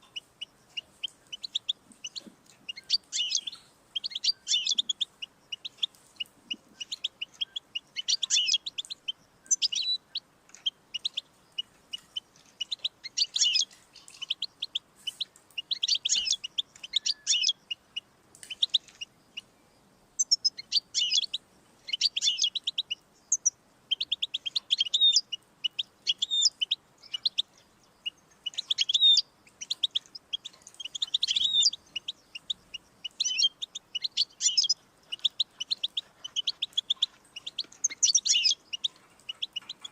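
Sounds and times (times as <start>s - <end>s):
bird twittering and trilling: 0.0s - 19.5s, 20.2s - 39.9s.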